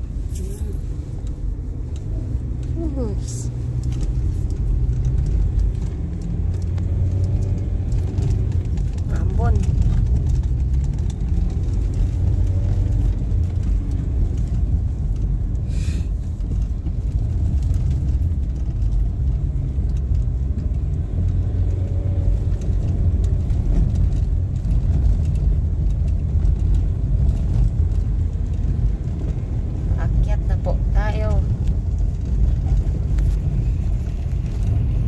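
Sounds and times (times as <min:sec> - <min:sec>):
car engine and tyres rumbling: 0:00.0 - 0:35.0.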